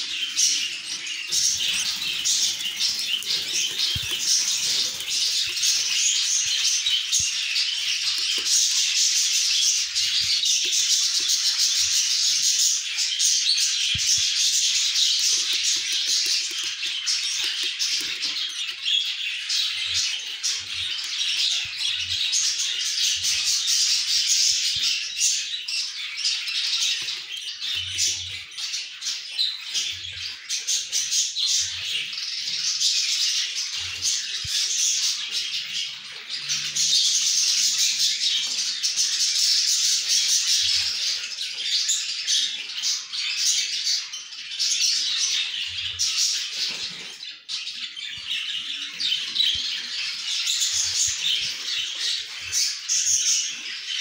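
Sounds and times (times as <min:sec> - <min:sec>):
budgerigars chirping and squawking: 0:00.0 - 0:54.0.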